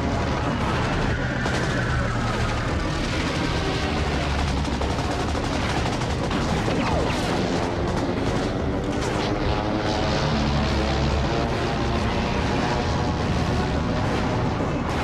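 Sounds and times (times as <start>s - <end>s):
rapid gunfire: 0.0s - 15.0s.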